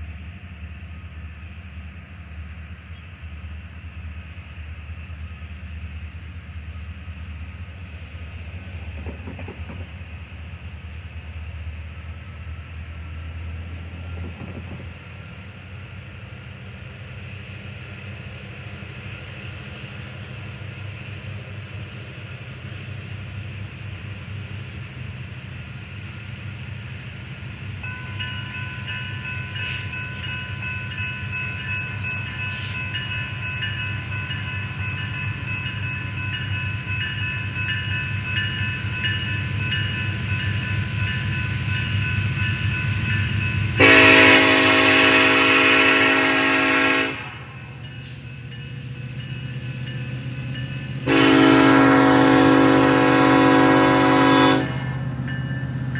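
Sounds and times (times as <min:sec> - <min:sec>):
train engine rumble: 0:00.0 - 0:55.9.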